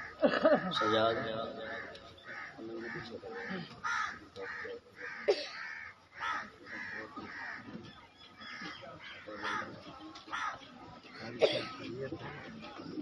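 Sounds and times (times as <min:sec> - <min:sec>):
crows cawing: 0:00.0 - 0:12.6.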